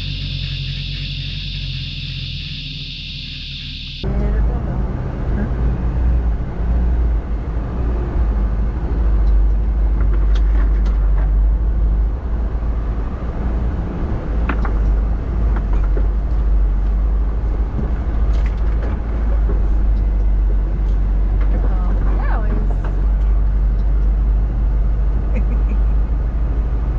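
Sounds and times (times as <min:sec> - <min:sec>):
diesel truck engine droning: 0:00.0 - 0:26.9.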